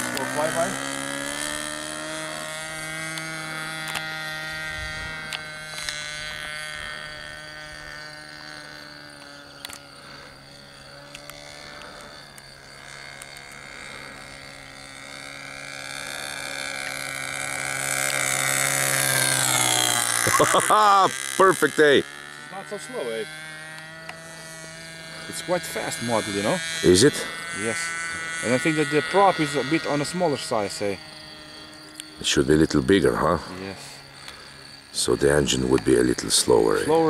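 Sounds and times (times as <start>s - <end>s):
model plane engine buzzing: 0.0s - 37.0s.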